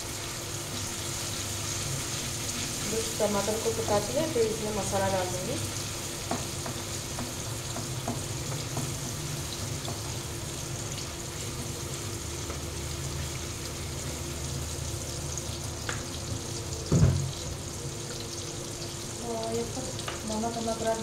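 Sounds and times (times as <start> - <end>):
tomatoes sizzling in oil: 0.0 - 21.0.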